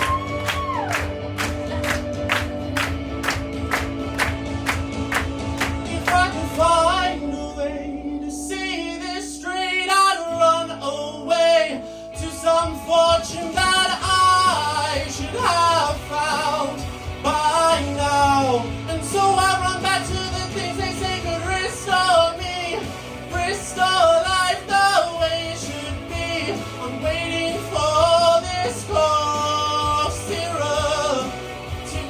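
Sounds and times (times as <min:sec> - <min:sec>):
drums: 0:00.0 - 0:09.2, 0:12.1 - 0:32.0.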